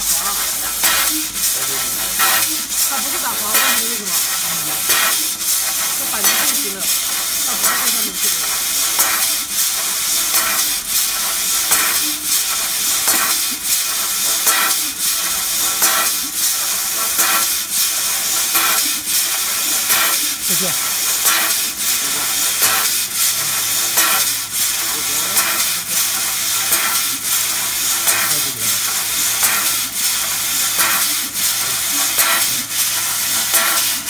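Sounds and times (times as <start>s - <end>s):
laser cutting metal pipe hiss: 0.0s - 34.0s.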